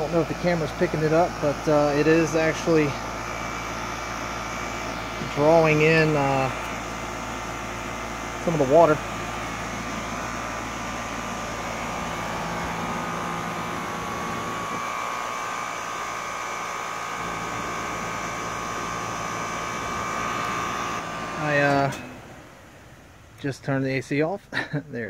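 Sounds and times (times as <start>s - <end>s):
air conditioner unit humming: 0.0s - 25.0s.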